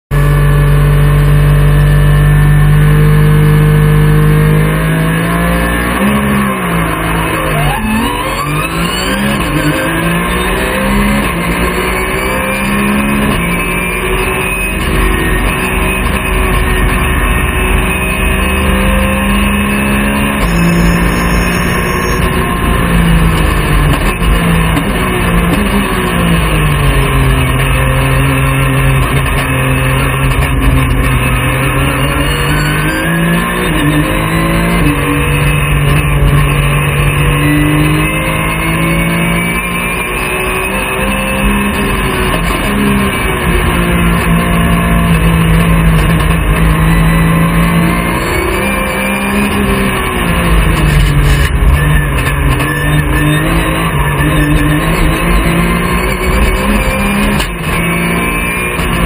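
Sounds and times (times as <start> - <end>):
race car engine revving: 0.1 - 59.0.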